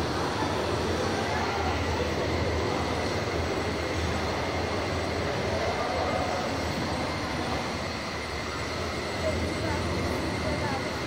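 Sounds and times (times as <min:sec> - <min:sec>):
model trains running: 0:00.0 - 0:11.0.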